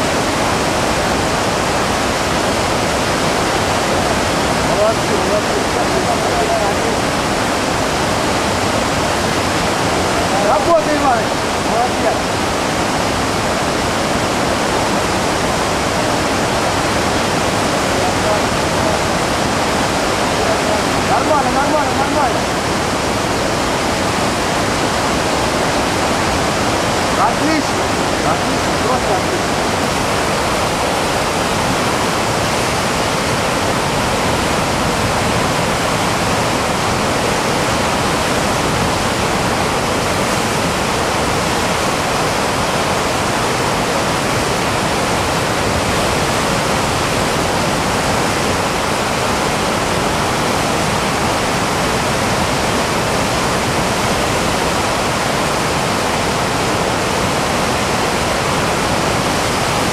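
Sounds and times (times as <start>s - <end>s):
whitewater rushing over boulders: 0.0s - 59.9s.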